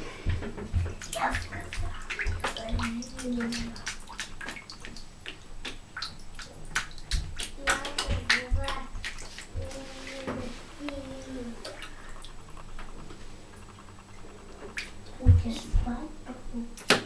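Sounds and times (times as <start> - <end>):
cat splashing water in bathtub: 0.0 - 17.0.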